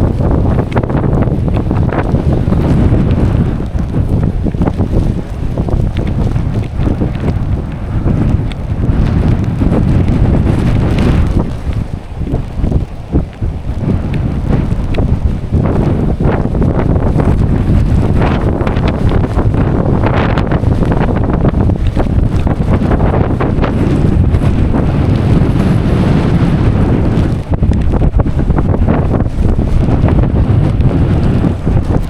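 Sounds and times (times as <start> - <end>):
strong wind buffeting microphone: 0.0 - 32.0.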